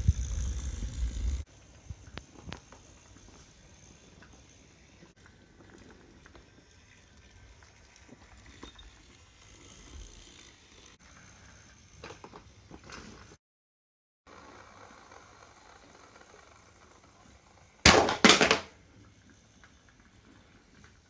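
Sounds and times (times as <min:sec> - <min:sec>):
toy train motor whirring: 0:00.0 - 0:13.4, 0:14.3 - 0:17.8, 0:18.8 - 0:21.0.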